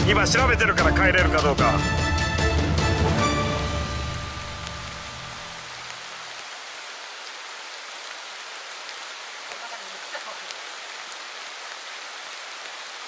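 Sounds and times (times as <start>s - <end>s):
heavy rain on stream and foliage: 0.0s - 13.0s.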